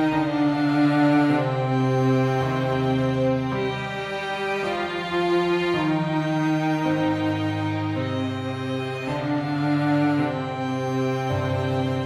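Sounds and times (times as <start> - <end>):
held chord background music: 0.0 - 12.0.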